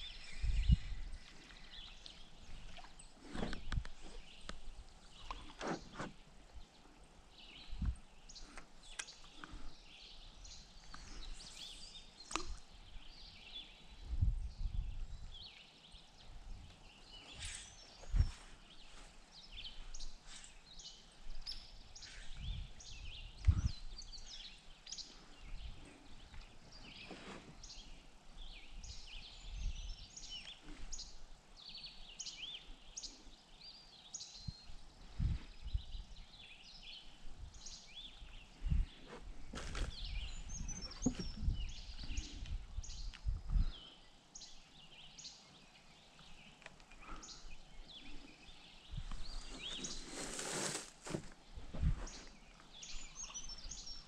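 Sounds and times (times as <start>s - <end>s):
birds chirping: 0.0s - 54.0s
outdoor background noise: 0.0s - 54.0s.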